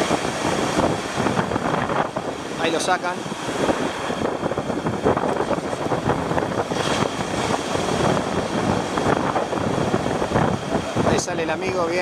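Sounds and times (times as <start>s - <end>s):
surf breaking: 0.0s - 12.0s
wind buffeting microphone: 0.0s - 12.0s.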